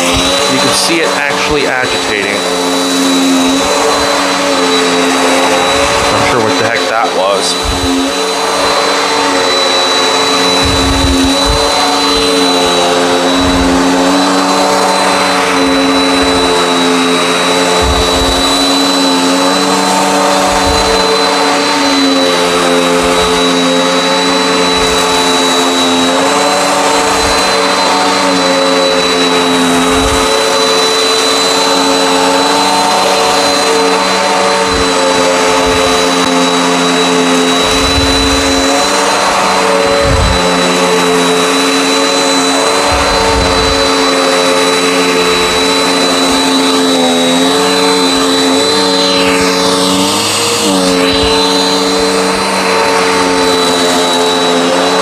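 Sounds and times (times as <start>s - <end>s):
high whine: 0.0s - 55.0s
vacuum cleaner running on carpet: 0.0s - 55.0s.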